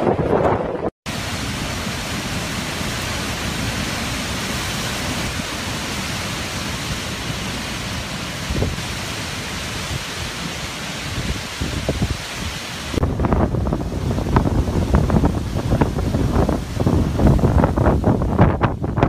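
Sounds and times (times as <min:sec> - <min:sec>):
hurricane wind and rain: 0:00.0 - 0:19.0.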